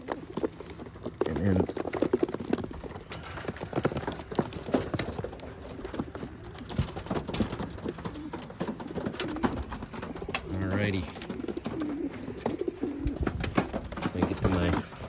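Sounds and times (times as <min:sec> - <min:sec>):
pigeons scrabbling in a crate: 0:00.0 - 0:15.0
crate knocks and clatter: 0:01.1 - 0:15.0.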